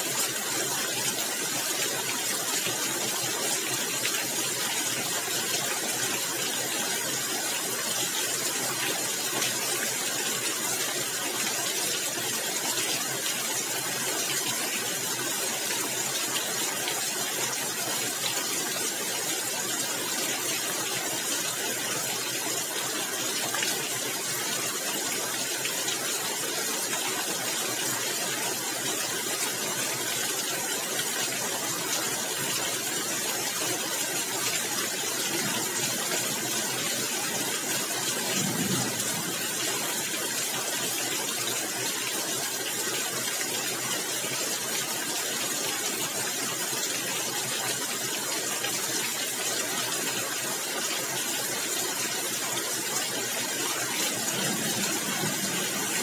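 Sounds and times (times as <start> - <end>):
rain pattering on a tiled roof: 0.0 - 56.0.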